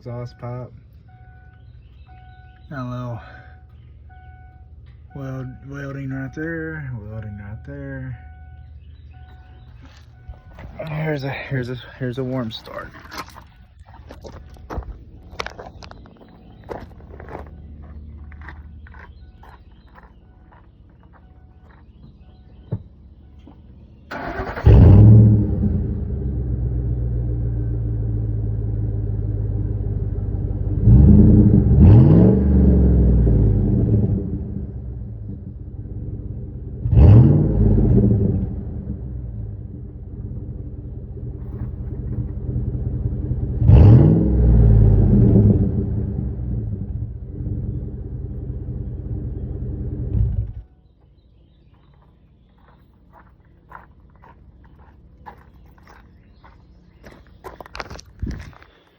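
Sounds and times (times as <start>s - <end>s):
engine revving blips: 0.0s - 11.2s, 14.5s - 50.8s
engine exhaust idling: 0.0s - 58.7s.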